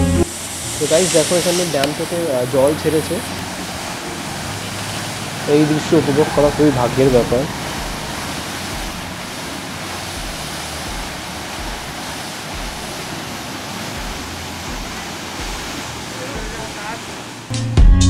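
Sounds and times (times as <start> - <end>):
water rushing and churning: 0.0 - 17.6.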